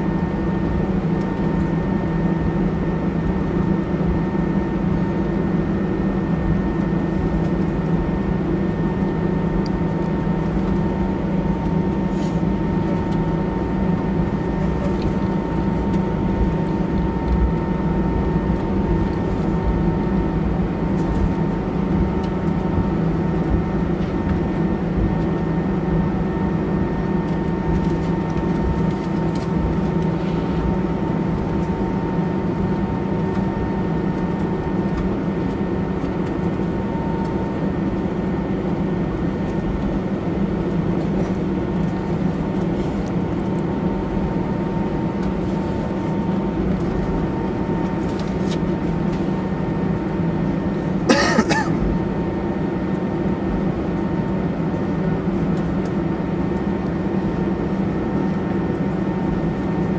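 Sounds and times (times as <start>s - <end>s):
airliner cabin rumble: 0.0s - 59.9s
jet engine whine: 0.0s - 59.9s.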